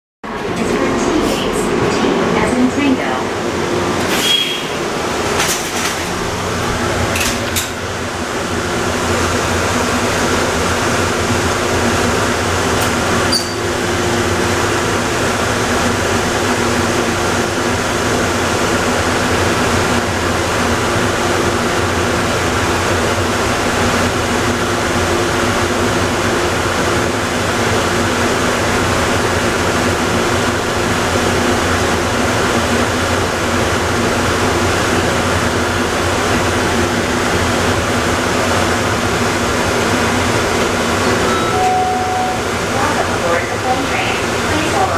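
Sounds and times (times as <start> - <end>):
people mover train running: 0.2 - 44.9.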